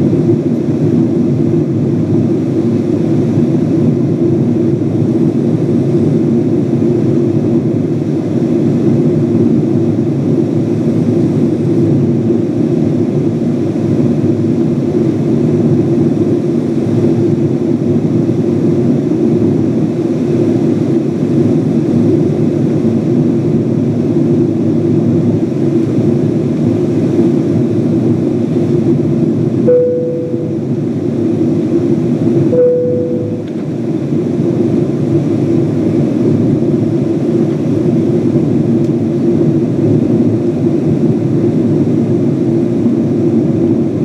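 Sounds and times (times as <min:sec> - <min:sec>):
airliner cabin engine noise: 0:00.0 - 0:44.0.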